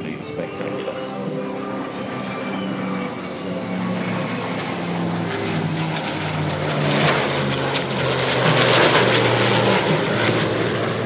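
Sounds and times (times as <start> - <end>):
aircraft engines passing low: 0.0 - 11.0.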